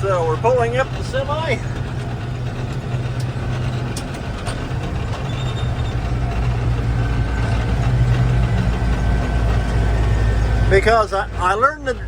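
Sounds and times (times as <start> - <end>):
combine engine drone: 0.0 - 12.0.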